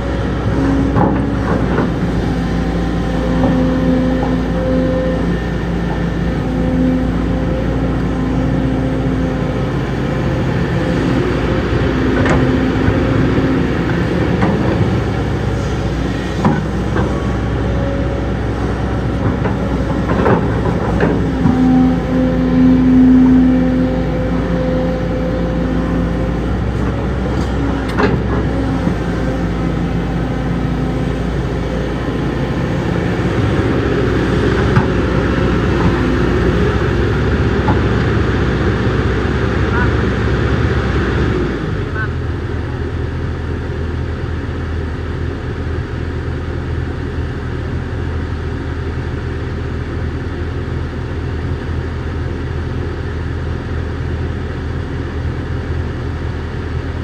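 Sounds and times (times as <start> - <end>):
diesel machinery engine: 0.0 - 57.0.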